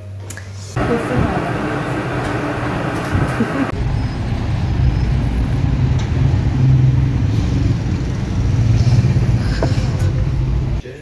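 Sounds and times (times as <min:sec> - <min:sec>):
road traffic rumble: 0:00.7 - 0:10.8
engine hum: 0:00.8 - 0:10.8.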